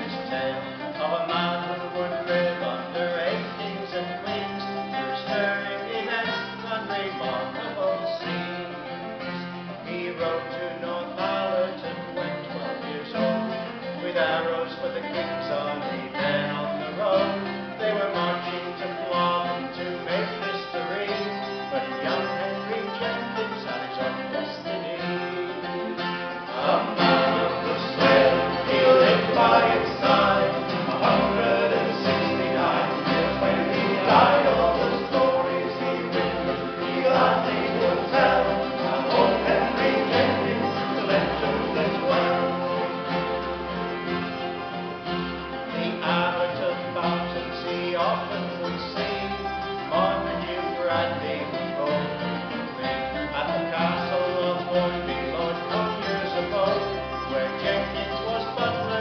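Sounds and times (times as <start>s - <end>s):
person singing: 0.0s - 44.2s, 45.5s - 52.3s, 53.2s - 59.0s
acoustic guitars: 0.0s - 59.0s
double bass: 0.0s - 59.0s.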